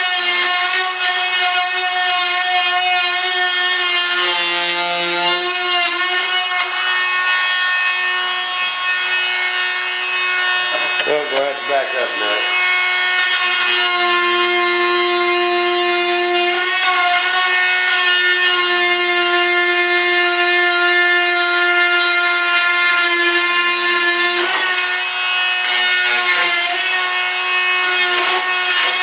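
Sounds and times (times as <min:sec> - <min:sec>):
rotary tool whining: 0:00.0 - 0:29.0.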